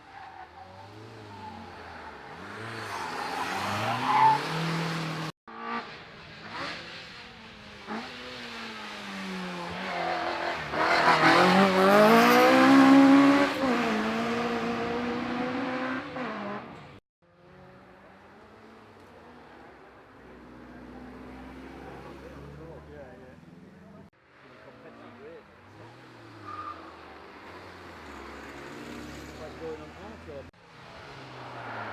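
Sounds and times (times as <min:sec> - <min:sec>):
car engines accelerating hard: 0:00.6 - 0:31.9.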